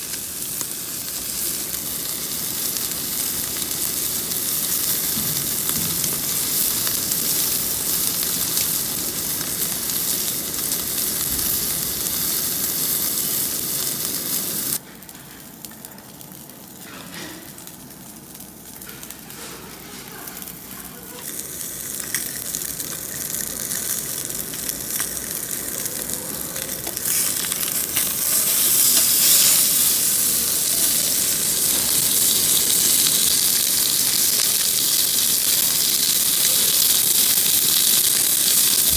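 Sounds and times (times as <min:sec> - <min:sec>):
ribs sizzling on a grill: 0:00.0 - 0:38.9.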